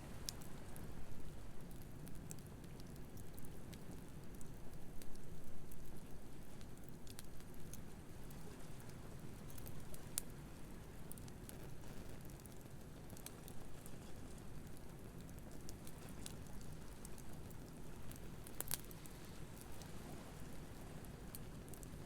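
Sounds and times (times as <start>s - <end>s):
wood fire crackling: 0.1s - 22.0s.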